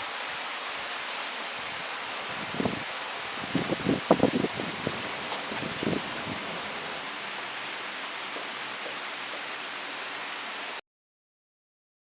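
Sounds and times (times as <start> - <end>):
rain falling: 0.0 - 10.8.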